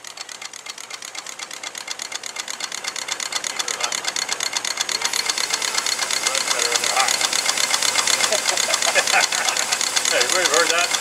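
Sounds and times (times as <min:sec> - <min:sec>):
steam engine exhaust beating: 0:00.0 - 0:11.0.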